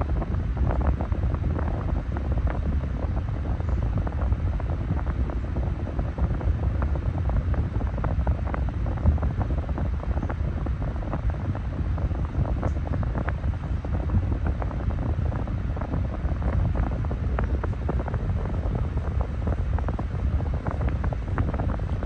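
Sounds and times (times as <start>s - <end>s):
desk fan wind noise: 0.0s - 22.0s.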